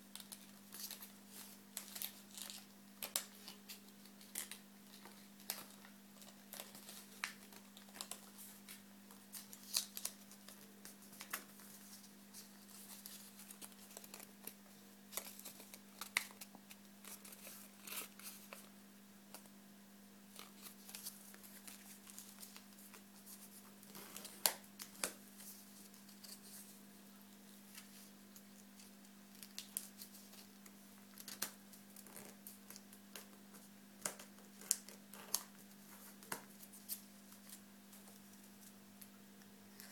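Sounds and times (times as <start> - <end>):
paper being folded: 0.1 - 18.7, 20.3 - 26.8, 27.5 - 38.8.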